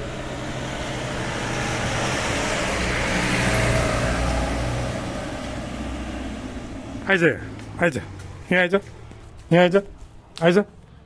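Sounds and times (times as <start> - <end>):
vehicle driving past: 0.0 - 9.4.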